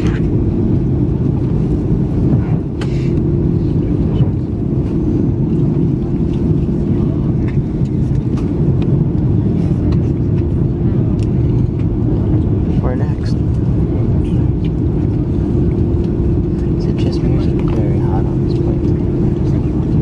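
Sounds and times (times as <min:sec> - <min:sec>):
aircraft engines low rumble: 0:00.0 - 0:20.0.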